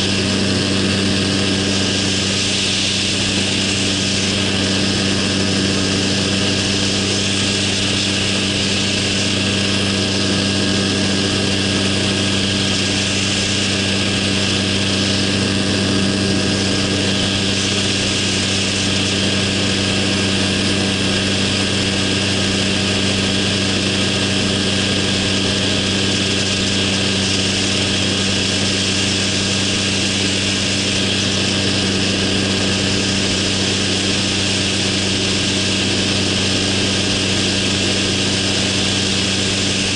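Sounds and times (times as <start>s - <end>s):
small engine and propeller drone: 0.0s - 39.9s.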